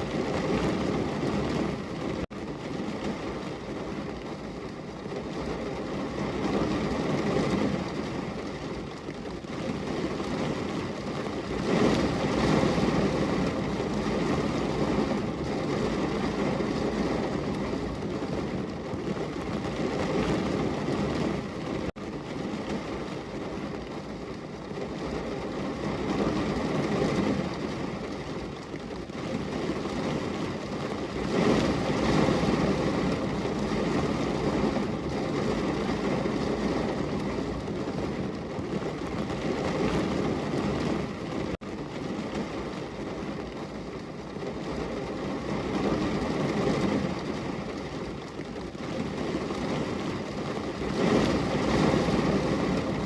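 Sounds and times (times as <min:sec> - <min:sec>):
heavy rain on a window: 0:00.0 - 0:53.0.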